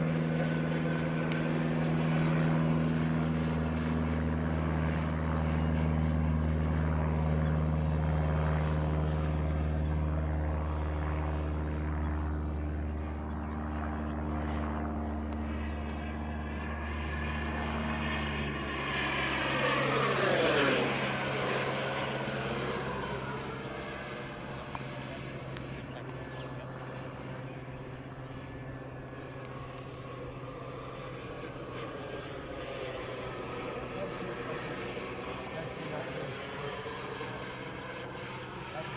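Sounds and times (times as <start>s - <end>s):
model jet whine: 0.0s - 38.9s
steady low hum: 0.0s - 38.9s.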